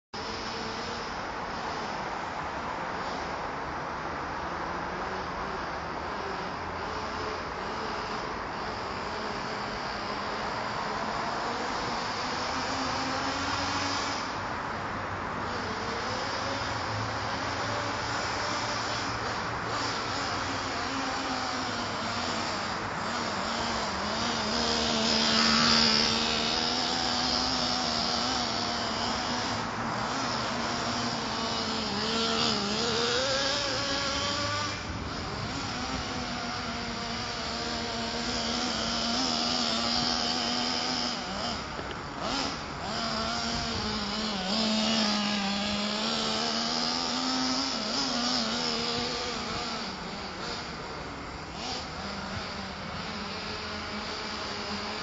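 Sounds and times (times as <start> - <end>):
small engine revving: 0.2 - 55.0.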